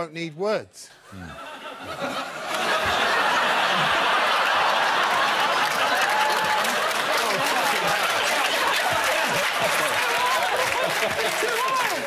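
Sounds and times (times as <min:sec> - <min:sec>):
studio audience laughing: 0:01.1 - 0:12.0.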